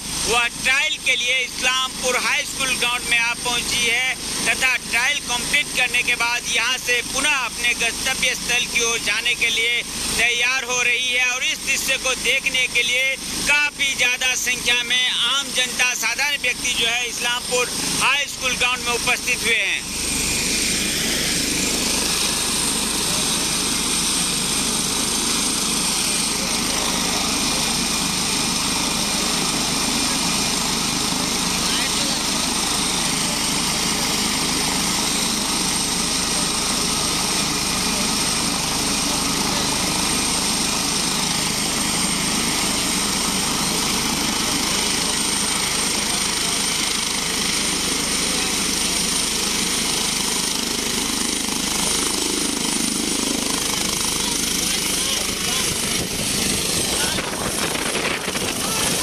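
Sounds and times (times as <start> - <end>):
helicopter turbine and rotor: 0.0 - 59.0.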